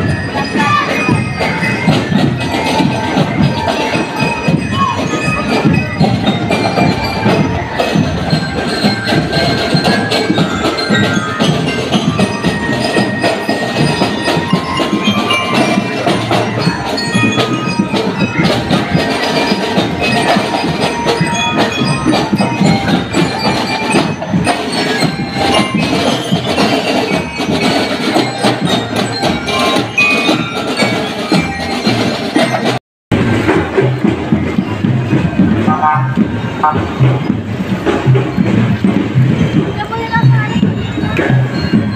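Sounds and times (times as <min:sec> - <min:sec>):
bell lyres playing melody: 0:00.0 - 0:41.9
drums beating: 0:00.0 - 0:41.9.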